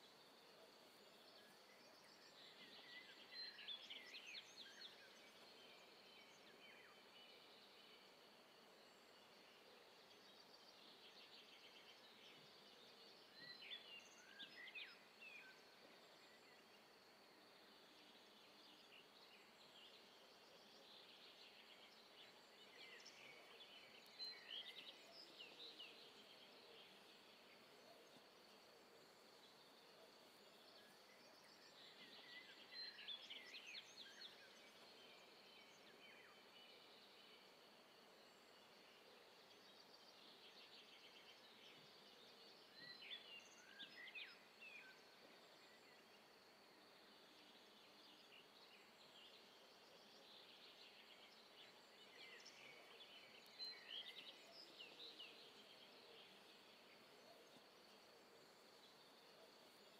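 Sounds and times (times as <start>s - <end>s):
faint steady high hiss: 0.0s - 59.9s.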